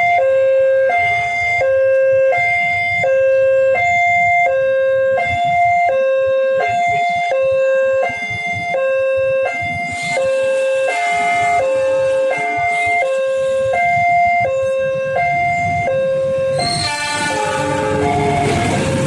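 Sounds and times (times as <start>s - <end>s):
road traffic rumble: 0.0s - 19.0s
two-tone level crossing alarm: 0.0s - 19.0s.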